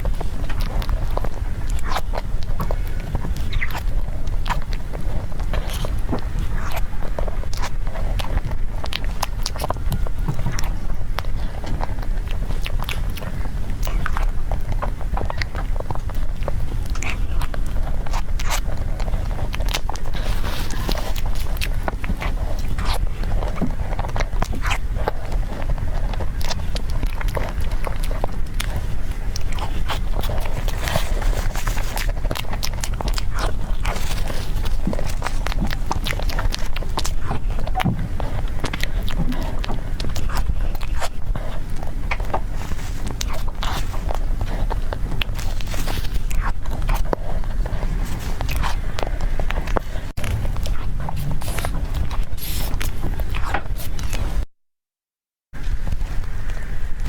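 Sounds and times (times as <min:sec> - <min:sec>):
biting and chewing cake: 0:00.0 - 0:54.5
small clicks and crackles: 0:00.0 - 0:54.5
steady low rumble: 0:00.0 - 0:54.5.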